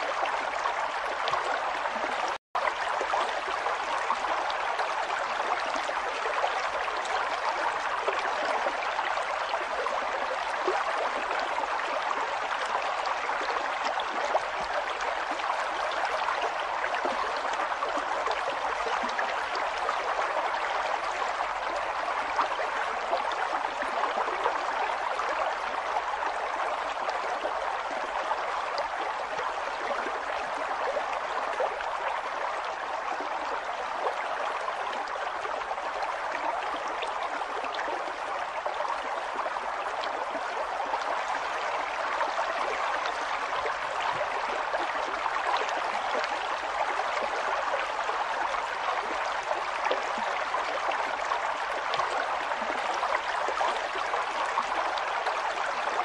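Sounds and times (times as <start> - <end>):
river water babbling over rocks: 0.0 - 56.0.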